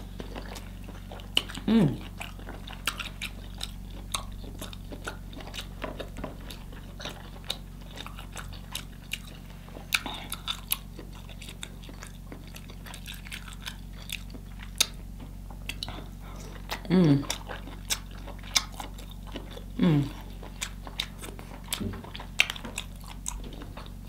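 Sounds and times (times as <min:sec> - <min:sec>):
wet chewing with mouth clicks: 0:00.0 - 0:24.0.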